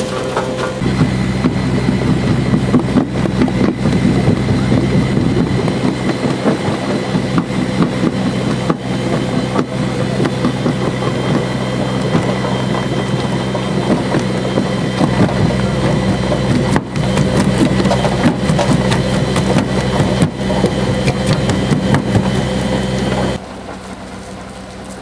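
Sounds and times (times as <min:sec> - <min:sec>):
dense irregular rattling: 0:00.0 - 0:23.4
vehicle engine running: 0:00.0 - 0:25.0.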